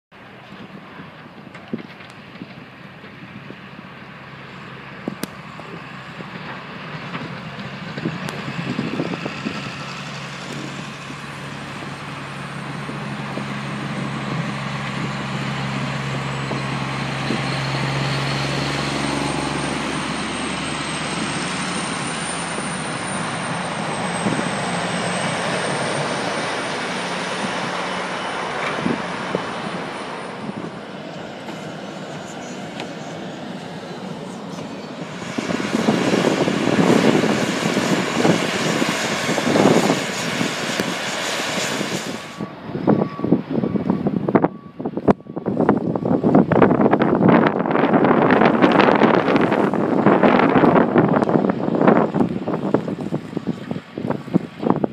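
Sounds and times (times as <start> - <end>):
heavy vehicle engine droning: 0.1 - 54.9
road traffic noise: 0.1 - 54.9.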